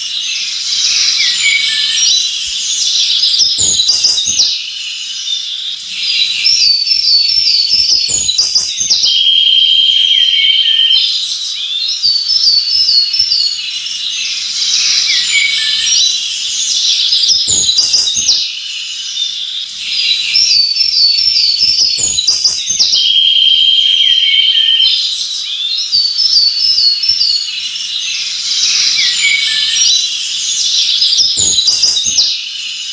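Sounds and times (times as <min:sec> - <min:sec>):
buzzy bird trill: 0:00.0 - 0:32.9
songbirds chirping and singing: 0:00.0 - 0:32.9.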